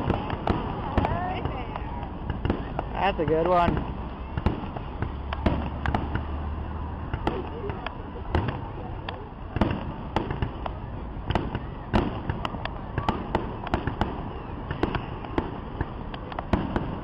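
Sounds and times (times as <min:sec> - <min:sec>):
fireworks bangs: 0:00.0 - 0:17.0
steady background noise: 0:00.0 - 0:17.0.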